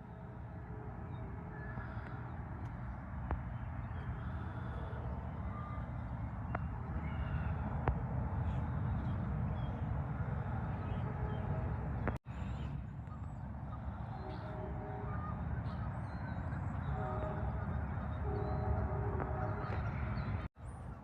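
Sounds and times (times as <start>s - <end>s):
heavy highway traffic rumble: 0.0s - 21.0s.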